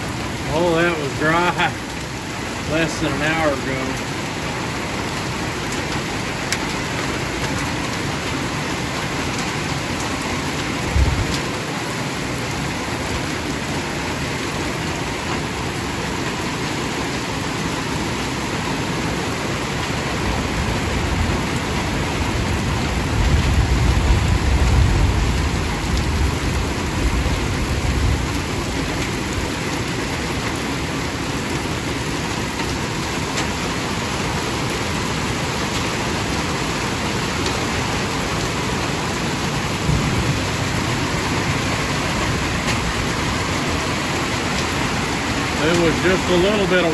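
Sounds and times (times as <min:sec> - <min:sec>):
heavy rain drumming on roof: 0:00.0 - 0:46.9.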